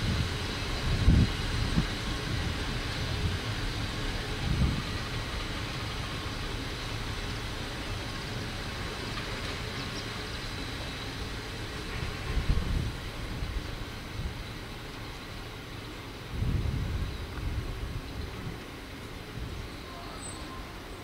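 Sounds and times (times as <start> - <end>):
train running gear rumble: 0.0 - 21.0.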